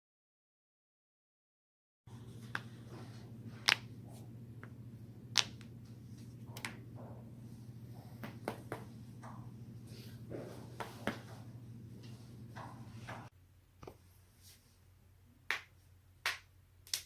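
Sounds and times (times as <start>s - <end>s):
steady low hum: 2.1s - 16.8s.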